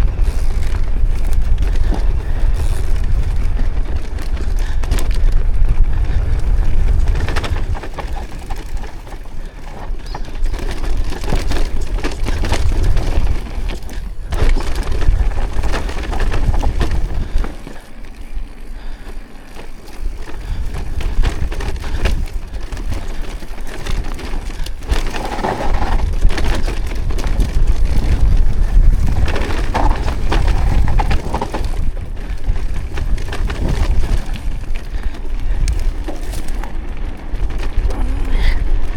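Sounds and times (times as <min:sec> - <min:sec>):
bicycle tyres clattering and crunching: 0:00.0 - 0:38.9
wind rumble on microphone: 0:00.0 - 0:38.9.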